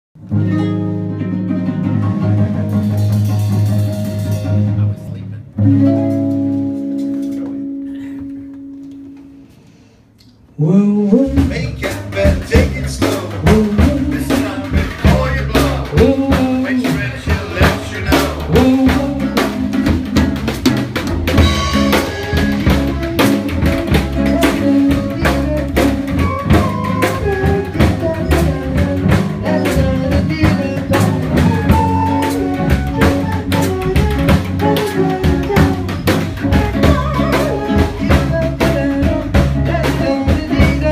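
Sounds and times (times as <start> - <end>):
swing-blues band playing: 0.2 - 9.7, 10.9 - 40.9.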